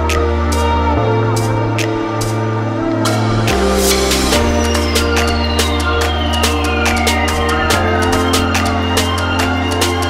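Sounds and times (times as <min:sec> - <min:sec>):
electronic background music: 0:00.0 - 0:10.0.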